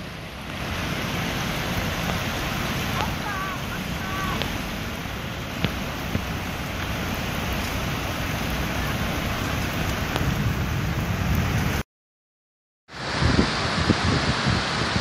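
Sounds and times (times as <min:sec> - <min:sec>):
heavy rain pouring: 0:00.0 - 0:11.8, 0:12.9 - 0:15.0.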